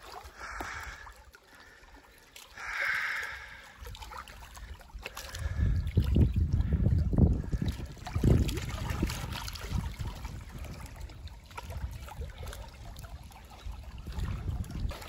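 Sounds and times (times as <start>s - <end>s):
small waves lapping at shore: 0.0s - 6.1s, 7.5s - 15.0s
wind buffeting microphone: 2.6s - 15.0s.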